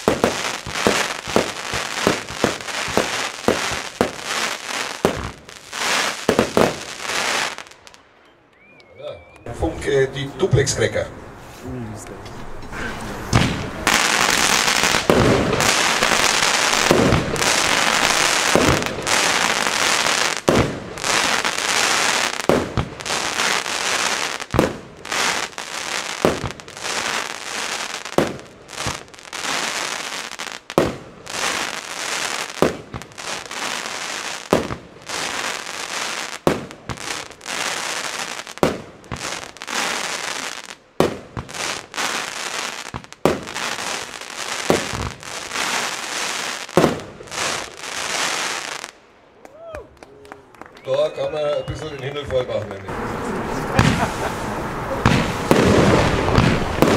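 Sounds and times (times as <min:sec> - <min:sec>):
firework bangs: 0:00.0 - 0:08.0, 0:13.2 - 0:49.0, 0:51.3 - 0:56.9
firework crackling: 0:00.0 - 0:08.0, 0:13.3 - 0:49.1, 0:51.2 - 0:56.9.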